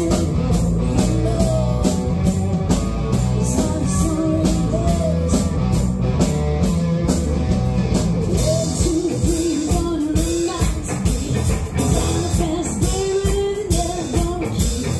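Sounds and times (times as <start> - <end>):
bass guitar: 0.0 - 14.9
drum kit beat: 0.0 - 14.9
electric guitar: 0.0 - 14.9.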